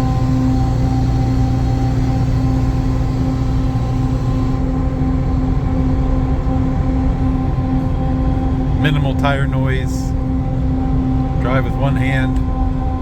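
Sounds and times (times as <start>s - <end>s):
diesel truck engine cruising: 0.0s - 13.0s.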